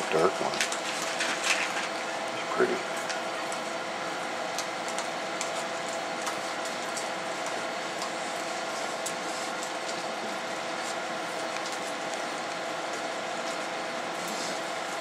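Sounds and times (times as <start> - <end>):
mechanical hum with tones: 0.0 - 15.0.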